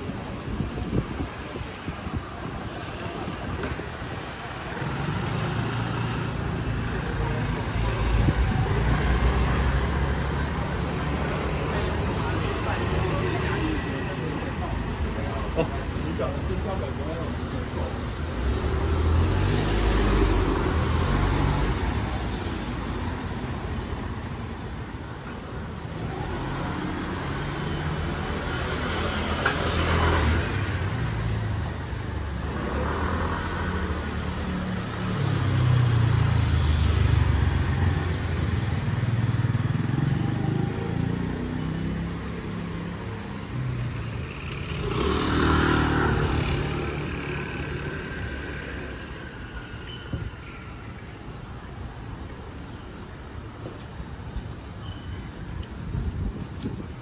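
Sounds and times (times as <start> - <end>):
cars and scooters passing: 0.0 - 57.0
steady street hum: 0.0 - 57.0.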